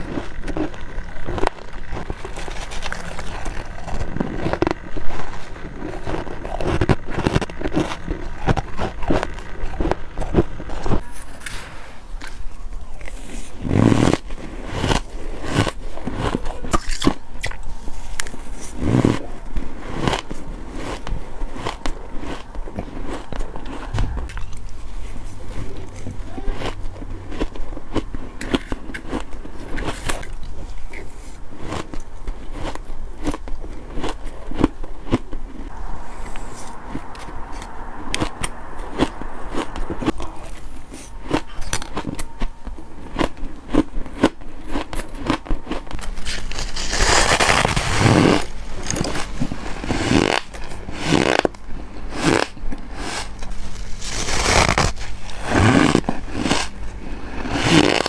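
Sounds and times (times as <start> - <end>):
chewing crunchy frost: 0.0 - 58.0.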